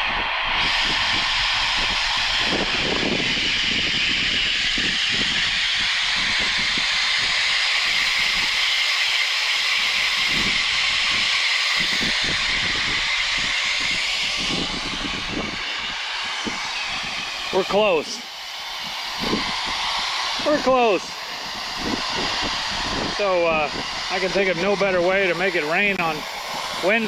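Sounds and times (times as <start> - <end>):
water hissing from sprinkler line: 0.7 - 27.0.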